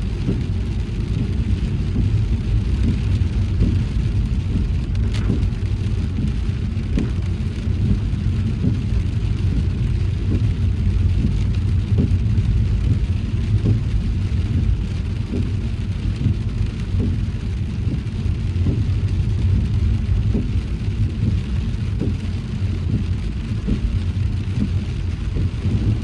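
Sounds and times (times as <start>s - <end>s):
car road and engine rumble: 0.0s - 26.0s
rain hissing on a car: 0.0s - 26.0s.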